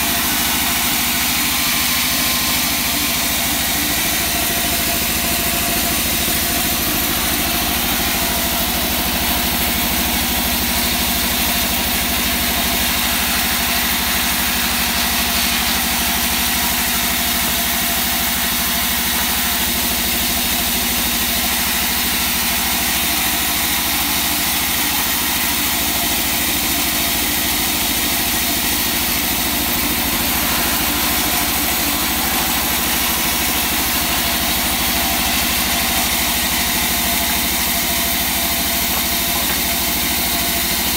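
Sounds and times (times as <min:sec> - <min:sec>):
band saw running: 0:00.0 - 0:40.9.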